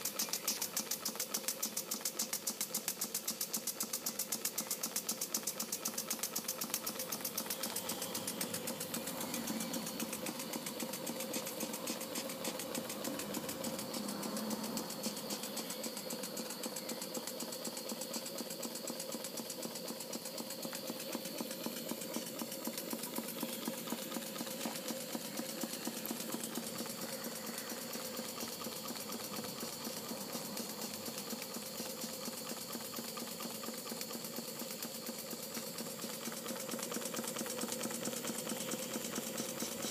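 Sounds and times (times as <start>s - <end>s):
steam engine exhaust puffs: 0.0s - 39.9s.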